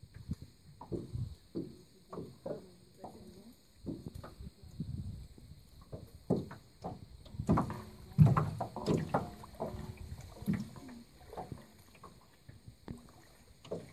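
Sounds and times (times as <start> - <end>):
water sloshing and splashing: 0.0 - 13.9.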